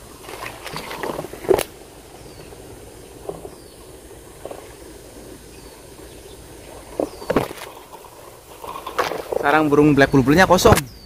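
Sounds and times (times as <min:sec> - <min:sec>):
branches and needles rustling: 0:00.0 - 0:11.0.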